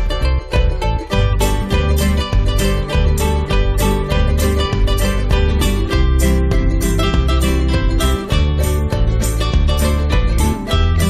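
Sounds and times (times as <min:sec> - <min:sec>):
steady bass beat: 0:00.0 - 0:11.0
upbeat plucked-string music: 0:00.0 - 0:11.0.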